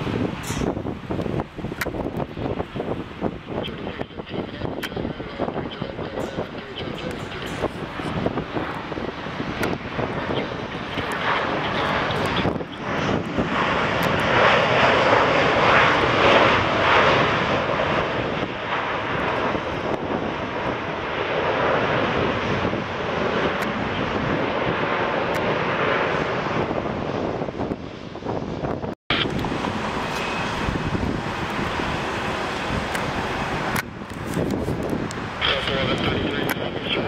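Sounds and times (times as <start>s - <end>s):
airliner engine passing: 0.0s - 37.0s.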